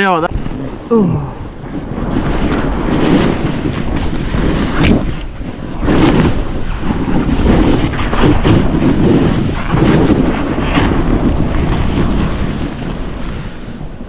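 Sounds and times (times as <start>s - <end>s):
wind buffeting microphone: 0.0s - 14.0s
snowboard scraping through snow: 1.7s - 14.0s.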